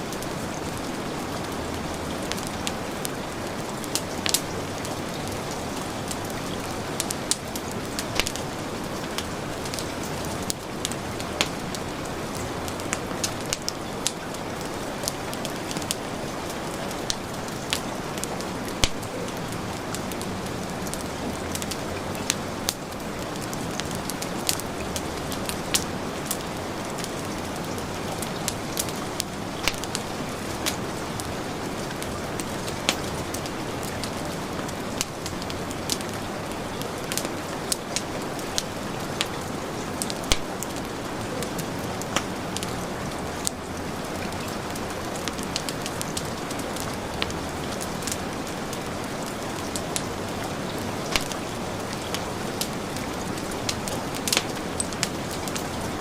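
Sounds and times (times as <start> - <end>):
heavy rain falling: 0.0 - 56.0
wood fire crackling and popping: 0.0 - 56.0.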